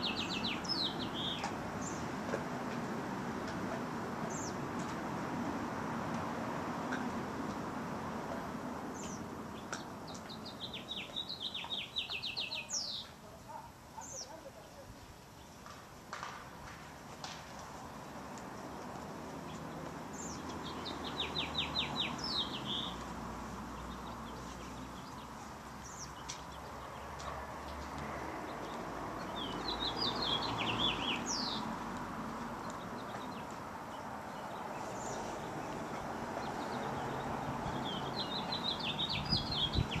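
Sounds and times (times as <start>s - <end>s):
songbird chirping: 0.0s - 2.8s, 3.5s - 5.3s, 5.9s - 15.9s, 17.6s - 40.0s.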